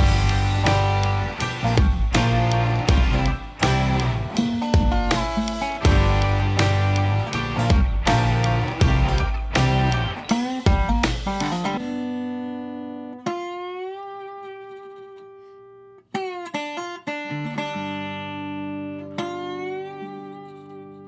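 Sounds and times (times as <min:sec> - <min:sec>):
slow plucked guitar music: 0:00.0 - 0:21.0.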